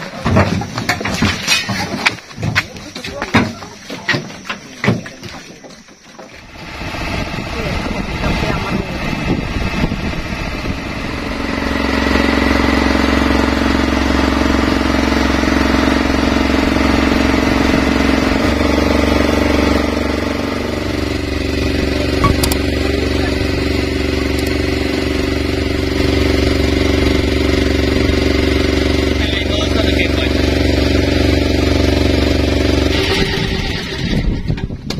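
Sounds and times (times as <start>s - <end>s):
motorboat engine running: 0.0s - 34.9s.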